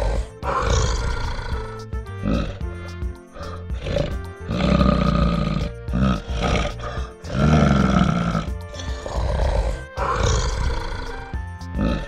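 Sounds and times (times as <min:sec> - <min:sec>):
background music: 0:00.0 - 0:12.0
bear growling: 0:00.0 - 0:12.0.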